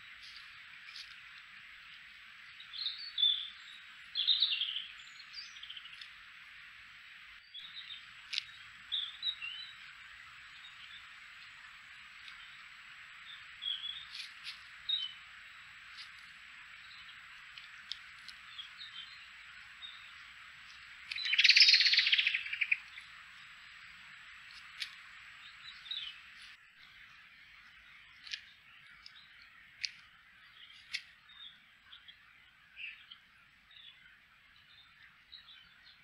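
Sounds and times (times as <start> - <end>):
steady hiss: 0.0 - 34.8.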